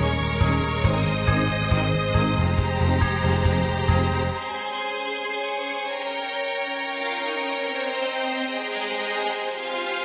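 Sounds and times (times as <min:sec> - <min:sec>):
slow sustained background music: 0:00.0 - 0:10.0.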